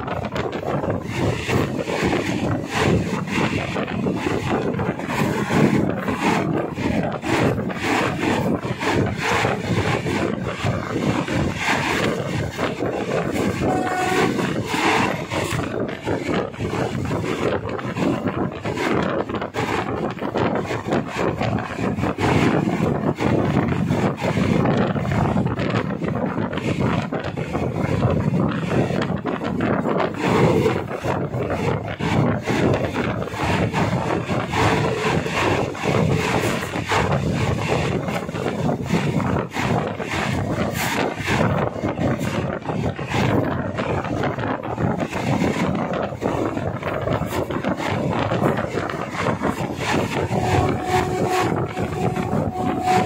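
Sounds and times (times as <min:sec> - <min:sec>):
rushing air: 0:00.0 - 0:53.0
train rattling and clatter: 0:00.0 - 0:53.0
train wheels rumbling: 0:00.0 - 0:53.0
wind buffeting microphone: 0:00.0 - 0:53.0.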